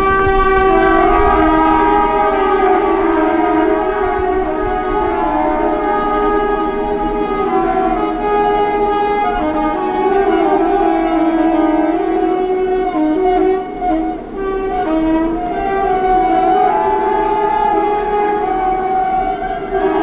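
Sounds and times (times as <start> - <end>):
locomotive horns chord: 0.0 - 20.0.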